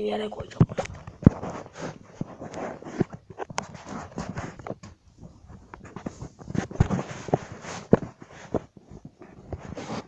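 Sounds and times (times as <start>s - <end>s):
fabric rustling: 0.6s - 10.0s.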